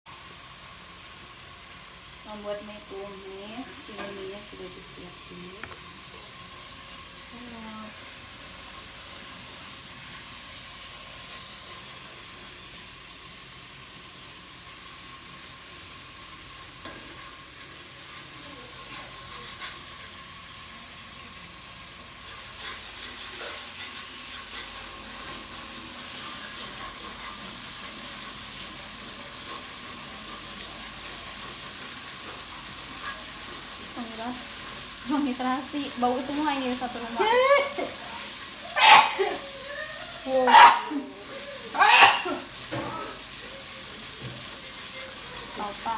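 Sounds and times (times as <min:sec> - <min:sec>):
food sizzling in hot oil: 0:00.1 - 0:45.9.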